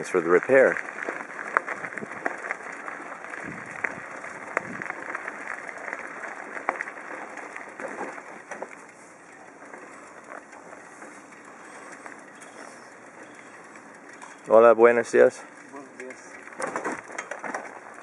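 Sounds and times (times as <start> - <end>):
bicycle rattling and clicking: 0.0 - 18.0
bicycle rolling on rough road: 0.0 - 18.0.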